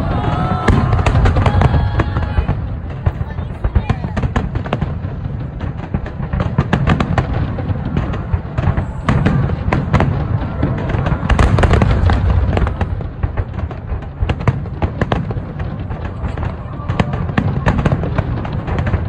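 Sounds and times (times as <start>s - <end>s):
fireworks deep rumbling booms: 0.0s - 19.0s.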